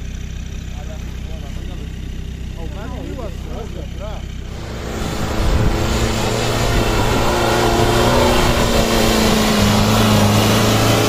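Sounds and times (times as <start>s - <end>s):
off-road car engine running: 0.0s - 11.0s.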